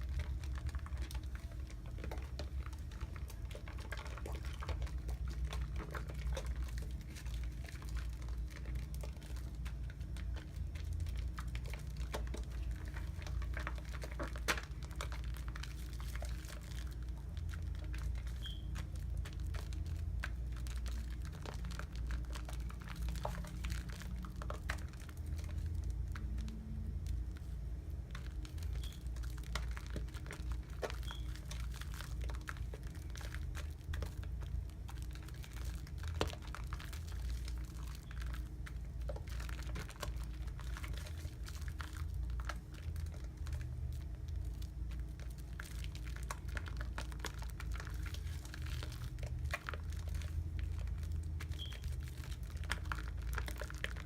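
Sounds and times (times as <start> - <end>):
faint low hum: 0.0 - 54.0
soap lather crackling and squishing: 0.0 - 54.0.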